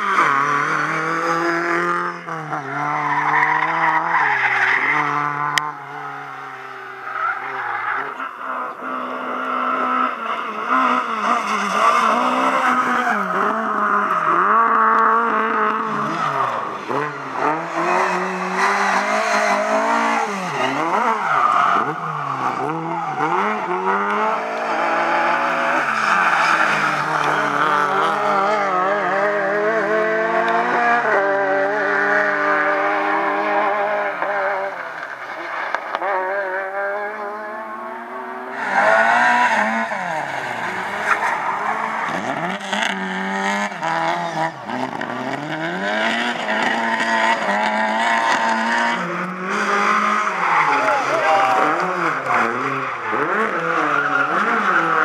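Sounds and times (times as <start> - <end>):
rally car engines revving: 0.0 - 55.0
tyres skidding: 0.0 - 55.0.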